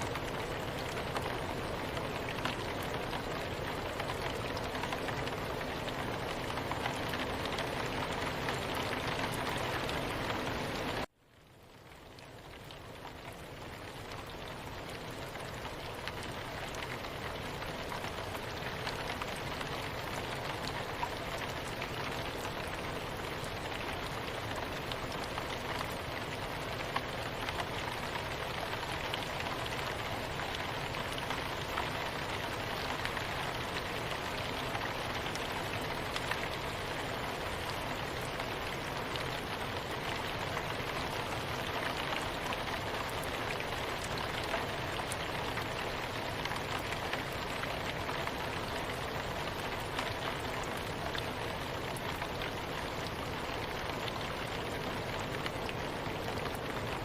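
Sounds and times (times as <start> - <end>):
soft rain falling: 0.0 - 57.0.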